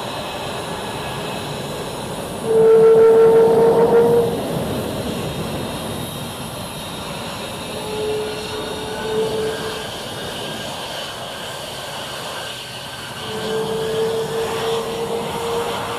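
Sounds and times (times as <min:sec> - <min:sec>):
jet engine rush and whine: 0:00.0 - 0:15.9.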